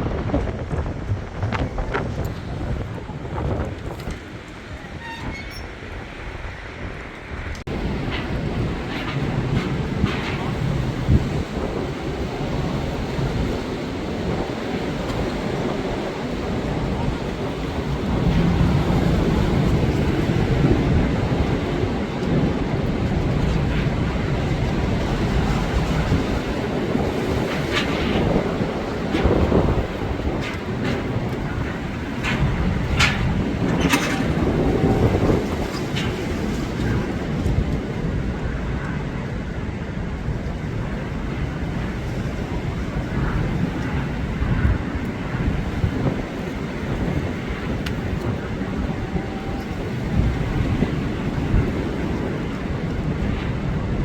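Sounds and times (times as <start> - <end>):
strong storm wind gusting: 0.0 - 54.0.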